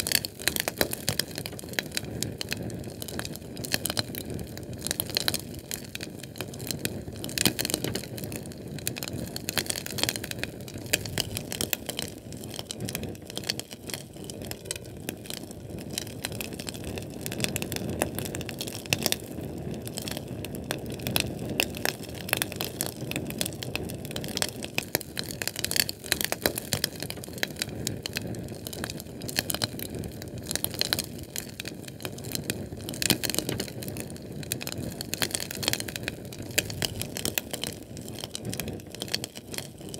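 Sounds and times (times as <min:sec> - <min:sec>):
fire crackles and pops: 0:00.0 - 0:39.9
fire rushing: 0:00.3 - 0:39.9.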